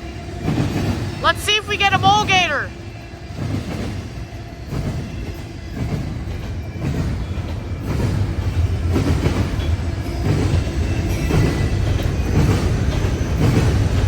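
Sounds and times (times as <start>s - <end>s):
freight train wheels rumbling: 0.0s - 14.0s
train clatter: 0.0s - 14.0s.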